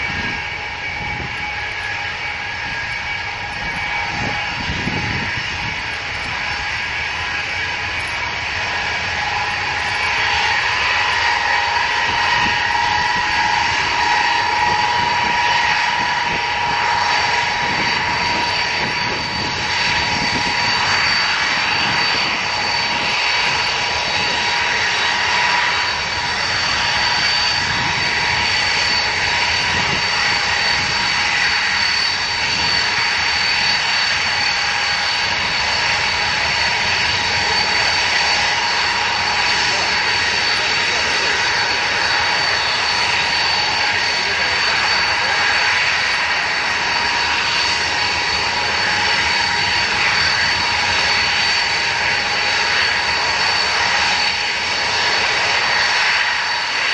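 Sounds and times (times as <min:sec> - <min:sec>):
high engine whine: 0:00.0 - 0:56.9
jet engines taxiing: 0:00.0 - 0:56.9.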